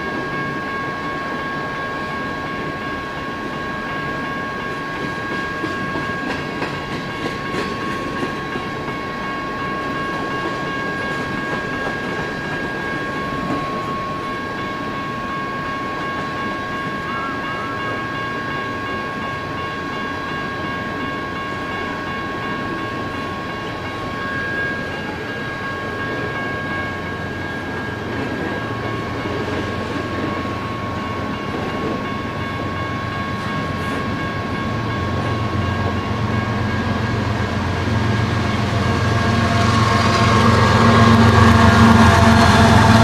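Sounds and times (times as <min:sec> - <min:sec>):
diesel locomotive engine rumble: 0:00.0 - 0:43.0
steady high tones: 0:00.0 - 0:43.0.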